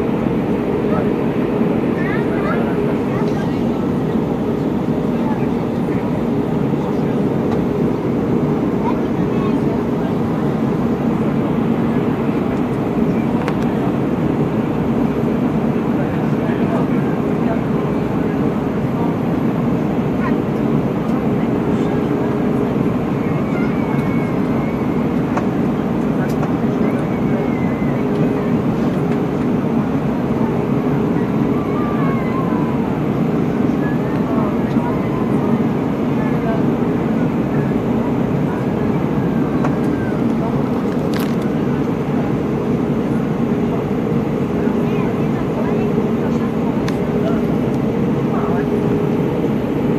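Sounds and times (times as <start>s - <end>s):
airliner in flight: 0.0s - 49.9s
airplane cabin engine roar: 0.0s - 49.9s.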